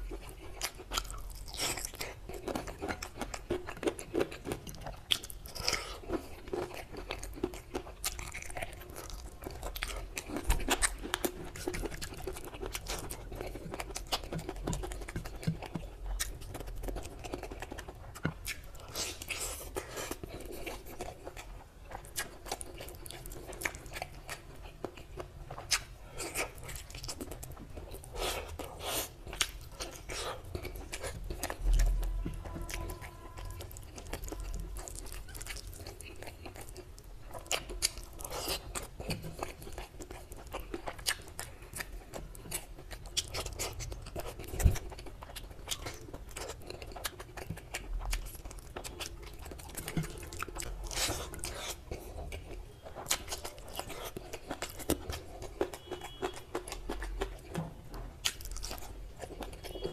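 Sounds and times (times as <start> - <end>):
chewing and biting meat: 0.0 - 59.9.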